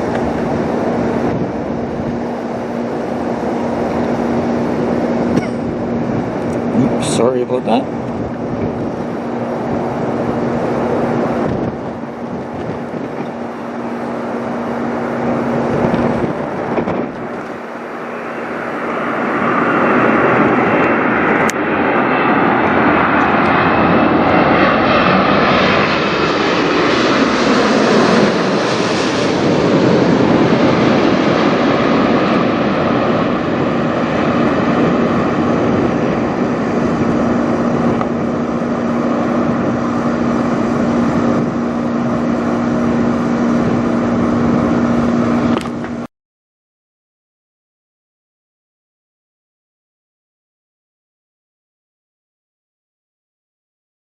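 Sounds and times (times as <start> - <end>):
jet airliner flying overhead: 0.0 - 46.1.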